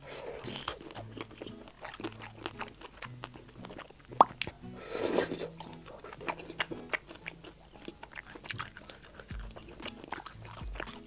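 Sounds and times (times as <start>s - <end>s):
crunchy chewing: 0.0s - 11.0s
wet mouth clicks and smacks: 0.4s - 4.6s, 5.4s - 11.0s.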